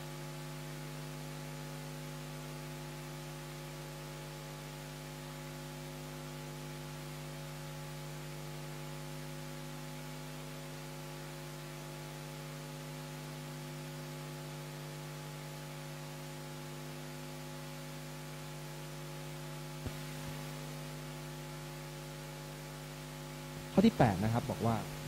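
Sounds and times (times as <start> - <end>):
electrical hum with hiss: 0.0 - 25.0.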